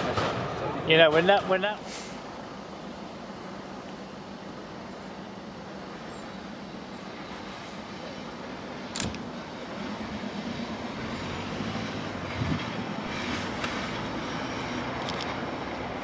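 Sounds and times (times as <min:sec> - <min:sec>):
diesel locomotive engine: 0:00.0 - 0:16.0.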